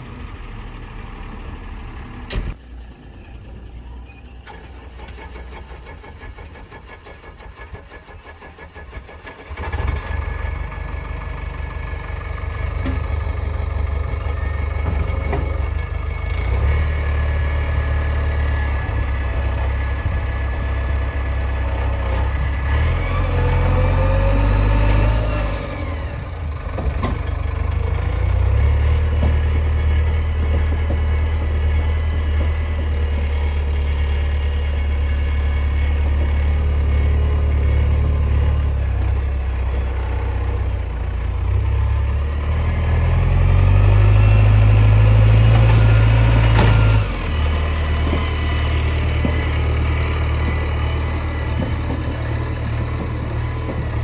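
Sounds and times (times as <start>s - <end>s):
heavy diesel engine revving: 4.4s - 54.0s.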